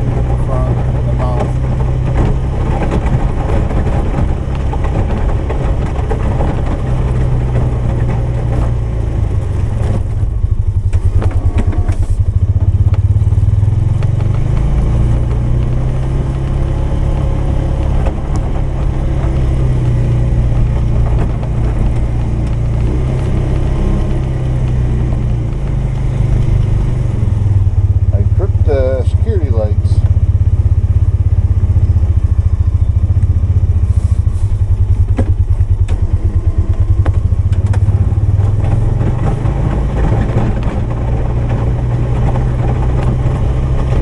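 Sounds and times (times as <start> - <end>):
engine plowing snow: 0.0 - 44.0.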